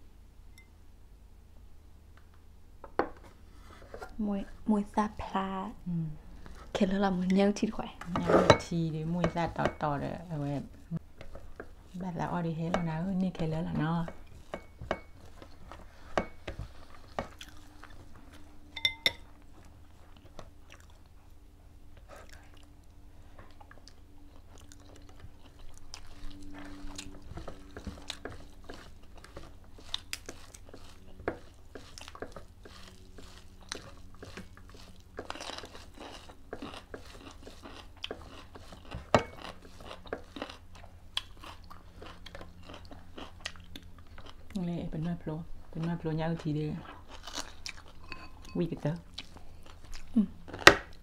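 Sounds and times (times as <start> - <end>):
low steady hum: 0.0 - 51.0
chewing and crunching food: 6.3 - 51.0.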